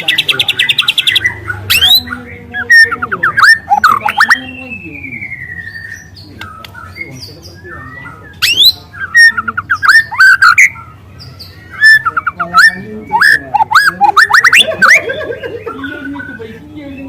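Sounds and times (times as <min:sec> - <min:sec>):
bird singing whistles and chirps: 0:00.0 - 0:15.1.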